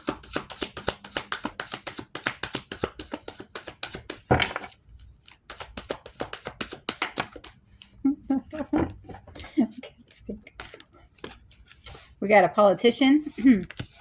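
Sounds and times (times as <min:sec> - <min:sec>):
cards being shuffled: 0:00.0 - 0:07.9, 0:08.8 - 0:12.2, 0:13.2 - 0:14.0.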